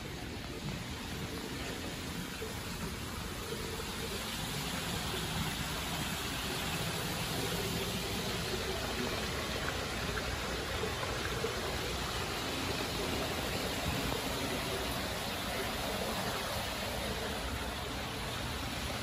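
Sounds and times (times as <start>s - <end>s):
water churning in spa pools: 0.0s - 19.0s.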